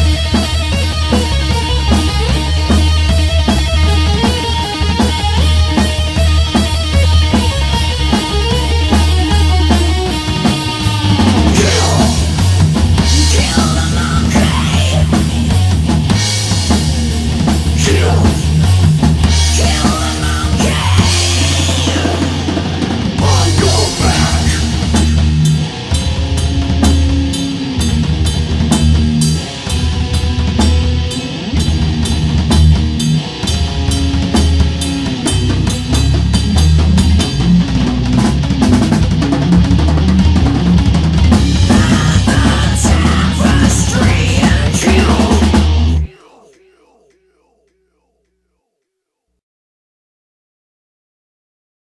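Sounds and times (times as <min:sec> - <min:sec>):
loud rock music: 0:00.0 - 0:47.1.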